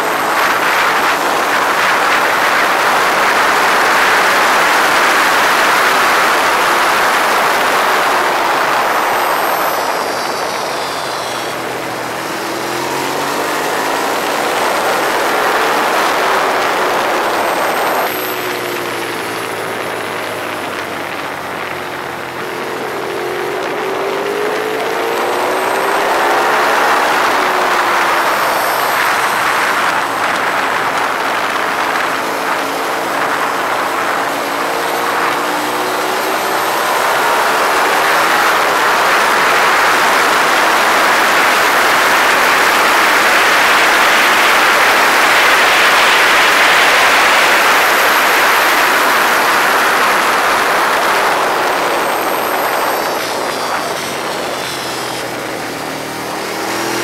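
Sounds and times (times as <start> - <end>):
motorcycle engine at speed: 0.0 - 57.0
wind rush on microphone: 0.0 - 57.0.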